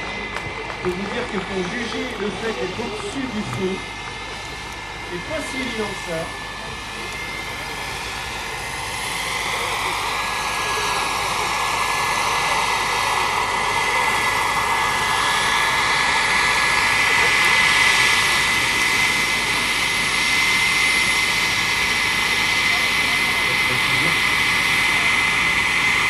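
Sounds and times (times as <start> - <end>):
model helicopter turbine whine: 0.0 - 26.0.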